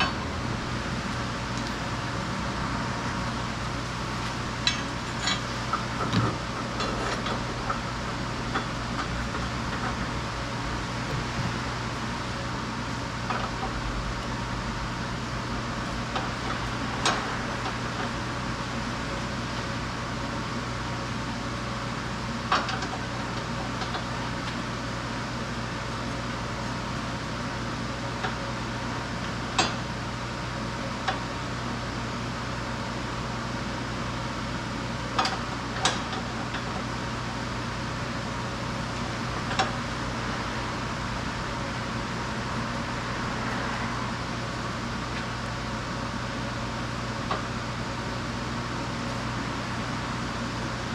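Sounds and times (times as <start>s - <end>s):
workshop hum: 0.0s - 50.9s.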